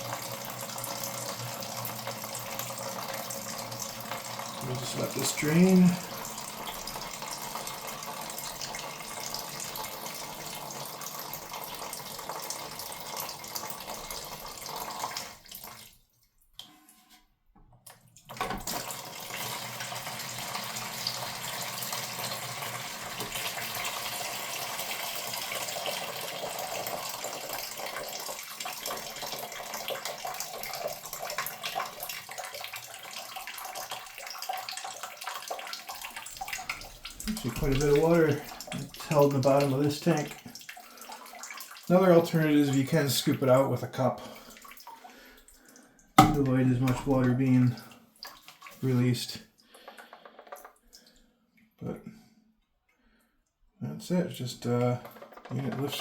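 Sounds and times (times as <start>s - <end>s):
water splashing into a bucket: 0.0s - 16.7s, 18.1s - 52.0s.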